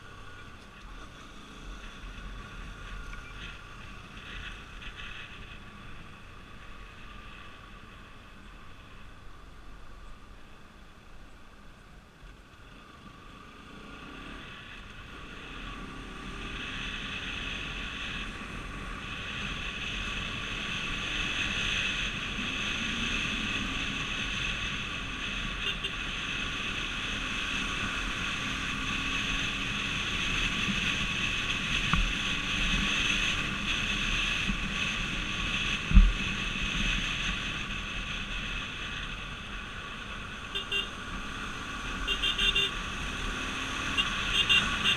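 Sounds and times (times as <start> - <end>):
road and wind noise: 0.0 - 44.9.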